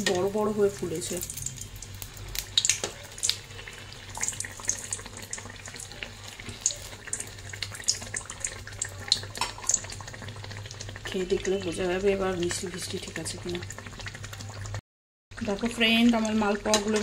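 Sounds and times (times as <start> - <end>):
oil crackles and pops: 0.0 - 14.8, 15.4 - 17.0
hot oil sizzling and bubbling: 0.0 - 17.0.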